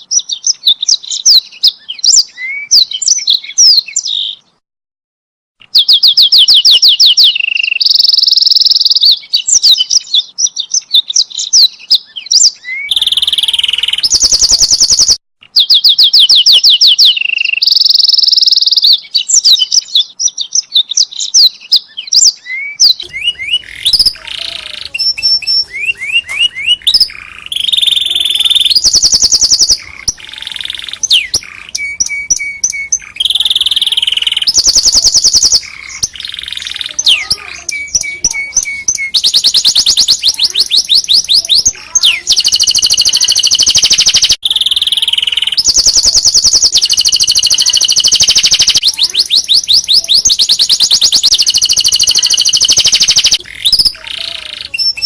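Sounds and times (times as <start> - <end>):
canary singing trills: 0.0 - 4.6, 5.6 - 55.0.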